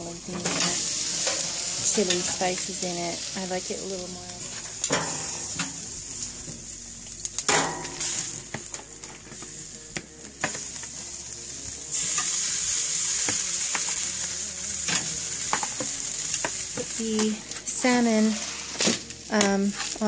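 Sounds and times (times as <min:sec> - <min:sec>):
chicken sizzling on grill: 0:00.0 - 0:20.0.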